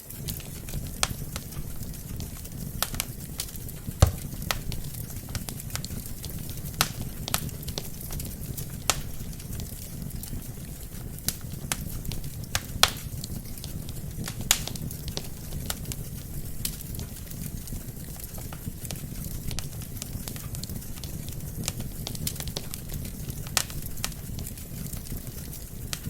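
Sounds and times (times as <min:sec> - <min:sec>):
fire flames rumbling: 0:00.0 - 0:26.0
logs crackling and popping: 0:00.0 - 0:26.0.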